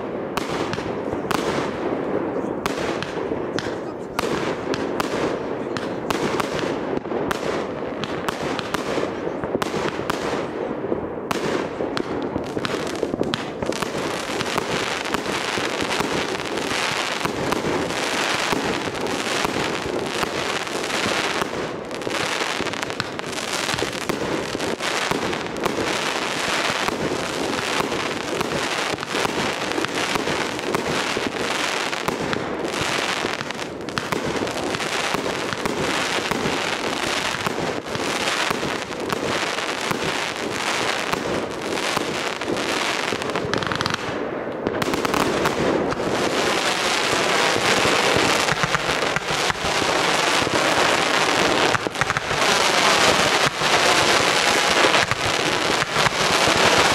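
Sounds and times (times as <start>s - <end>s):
fireworks bursting: 0.0s - 56.9s.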